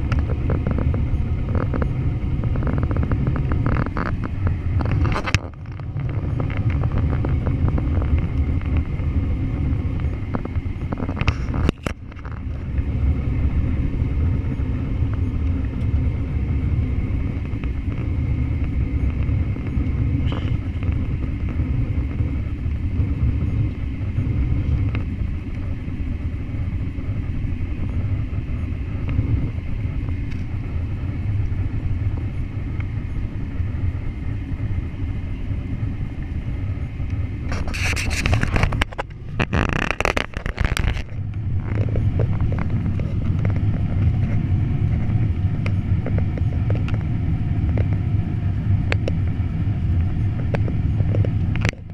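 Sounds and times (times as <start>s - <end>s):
jet airliner cabin rumble: 0.0s - 51.9s.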